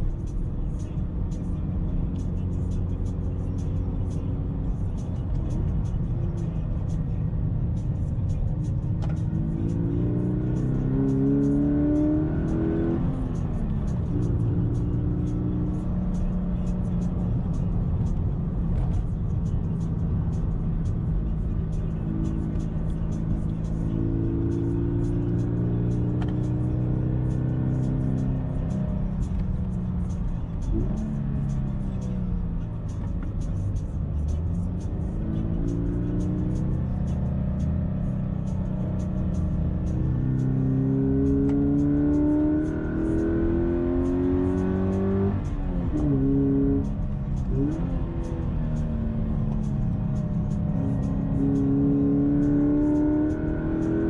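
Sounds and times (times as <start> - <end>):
road and tyre noise: 0.0 - 54.0.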